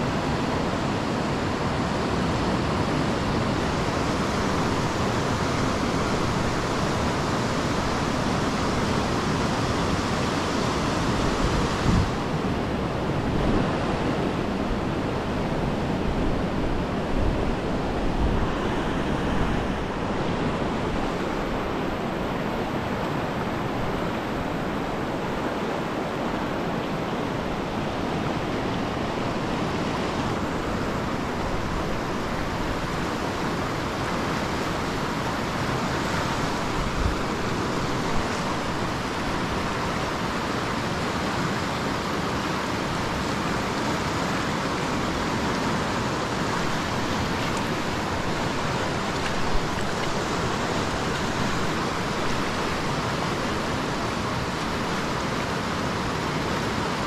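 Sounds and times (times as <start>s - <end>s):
whitewater rapids roaring: 0.0s - 57.0s.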